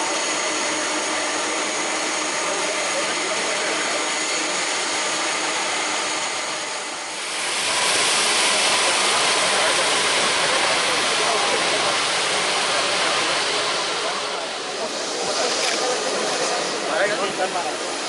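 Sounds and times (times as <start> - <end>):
jet engines whining and roaring: 0.0 - 18.0.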